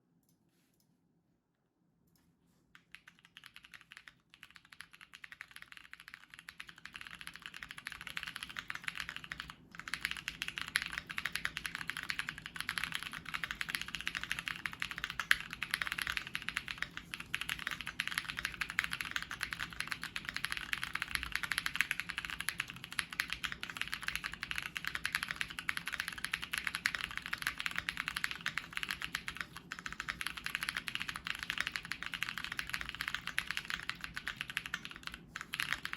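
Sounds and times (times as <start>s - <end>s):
mechanical keyboard typing: 2.8s - 35.9s.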